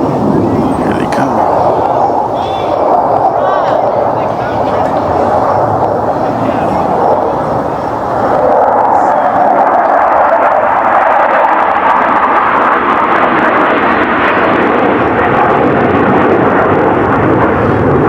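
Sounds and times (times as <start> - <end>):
fighter jets roaring overhead: 0.0 - 18.0.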